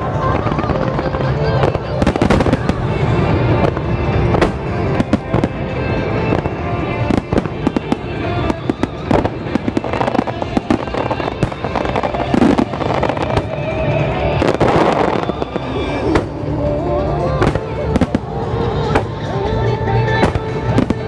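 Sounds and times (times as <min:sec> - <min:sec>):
fireworks bursting with bangs: 0:00.0 - 0:21.0
show music: 0:00.0 - 0:21.0.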